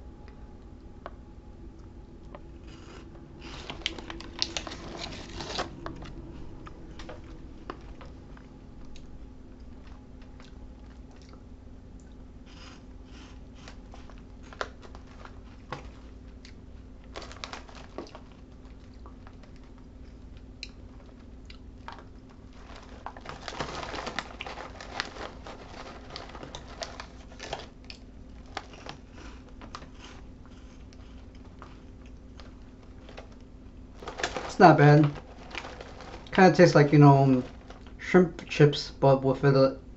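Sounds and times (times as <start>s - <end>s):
plastic snack bag crinkling: 2.3s - 11.2s, 12.5s - 39.0s
crunchy snacks being chewed: 2.3s - 38.0s.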